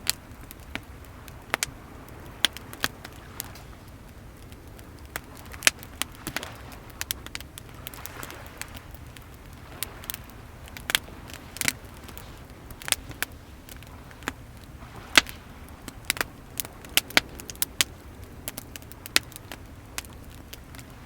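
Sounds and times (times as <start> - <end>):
sea waves: 0.0 - 21.0
wood fire crackling: 0.0 - 21.0.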